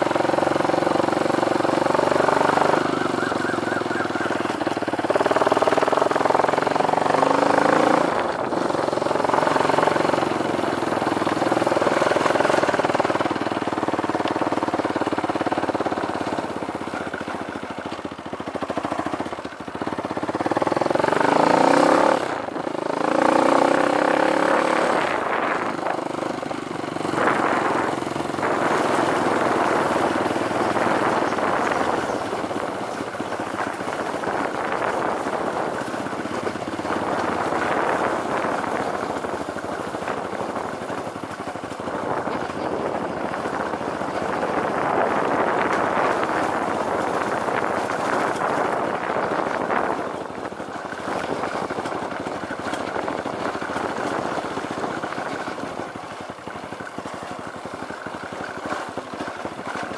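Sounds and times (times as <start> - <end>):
dirt bike engine accelerating: 0.0 - 59.9.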